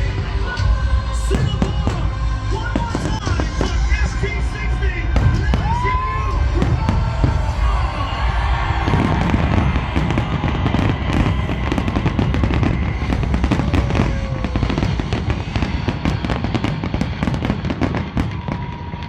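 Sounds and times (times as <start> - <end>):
fireworks bangs and crackles: 0.0 - 19.0
low rumble: 0.0 - 19.0.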